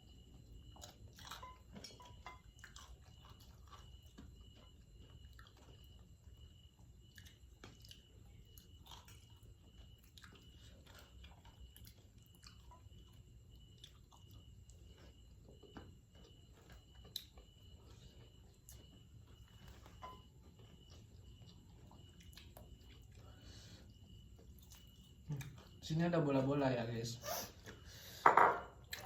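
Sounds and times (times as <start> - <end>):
person chewing food: 0.0 - 25.8, 27.6 - 29.0.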